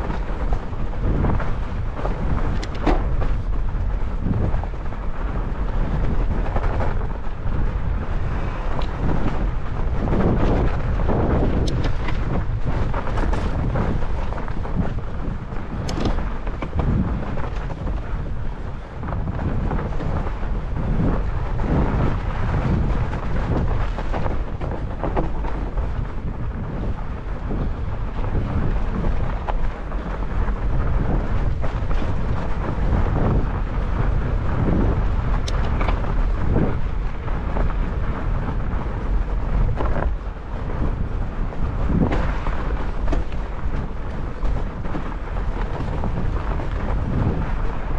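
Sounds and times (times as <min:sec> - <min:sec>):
bike knocks and rattles: 0:00.0 - 0:47.9
tyres rolling over snow: 0:00.0 - 0:47.9
wind buffeting microphone: 0:00.0 - 0:47.9.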